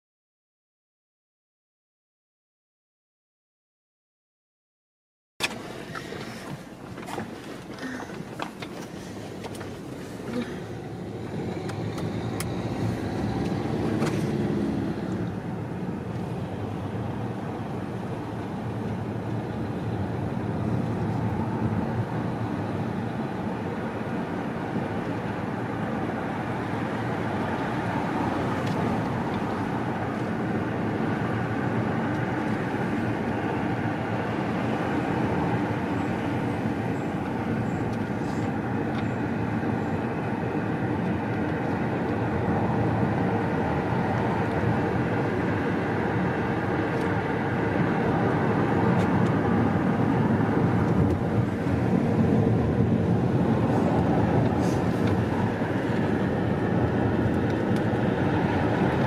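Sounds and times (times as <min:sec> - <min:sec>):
car engine running: 0:05.4 - 0:59.0
tyres on tarmac: 0:05.4 - 0:59.0.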